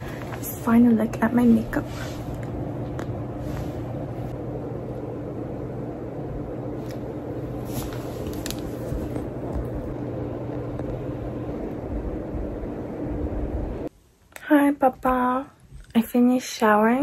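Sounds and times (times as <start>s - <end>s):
room background hum and hiss: 0.0s - 17.0s.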